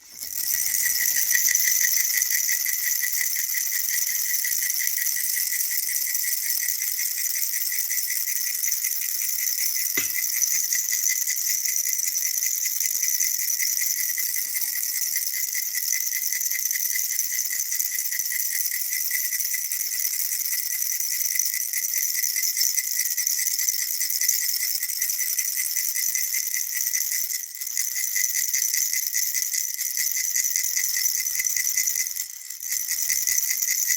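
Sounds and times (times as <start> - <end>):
baby rattle shaking: 0.0 - 33.9.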